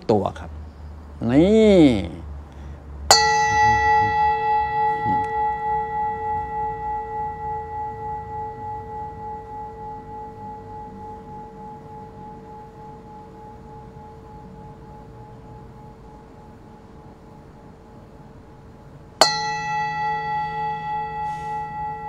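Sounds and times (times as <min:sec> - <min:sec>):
singing bowl struck and ringing: 0:03.1 - 0:22.0.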